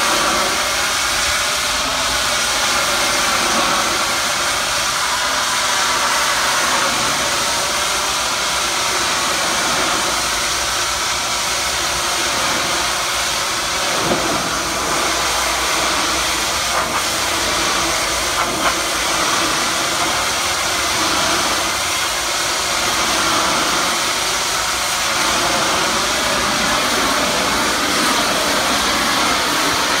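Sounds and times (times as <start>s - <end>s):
pressure washer jet hissing: 0.0s - 30.0s.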